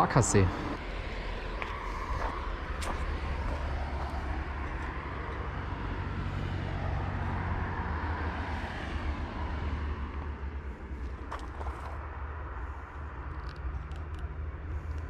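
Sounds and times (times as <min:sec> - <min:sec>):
distant road traffic: 0:00.0 - 0:15.0.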